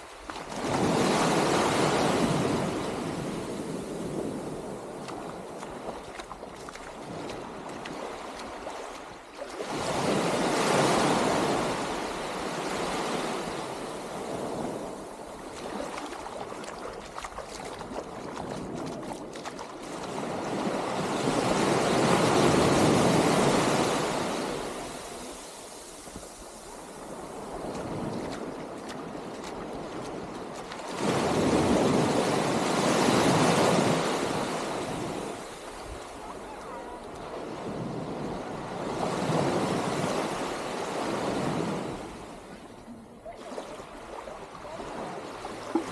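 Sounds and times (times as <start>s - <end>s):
small waves washing onto sand: 0.0s - 45.9s.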